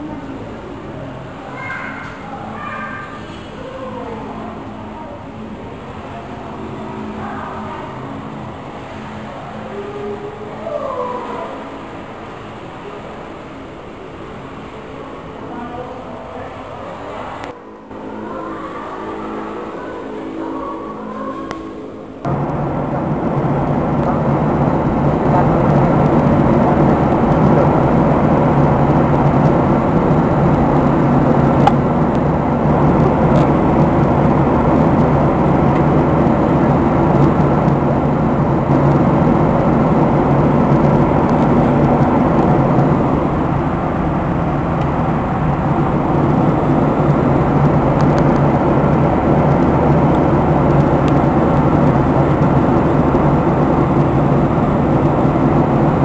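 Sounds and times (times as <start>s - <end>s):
jet engine and airflow drone: 0.0s - 56.0s
thin high whine: 0.0s - 56.0s.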